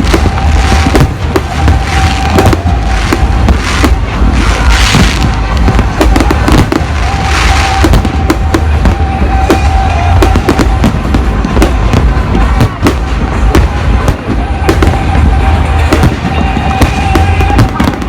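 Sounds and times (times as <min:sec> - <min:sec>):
fireworks bangs and crackles: 0:00.0 - 0:18.0
fireworks hissing: 0:00.0 - 0:18.0
heavy low rumble: 0:00.0 - 0:18.0.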